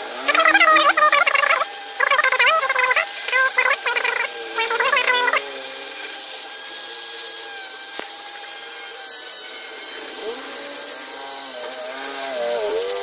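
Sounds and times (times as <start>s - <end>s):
rotary grinder whining and grinding: 0.0s - 13.0s.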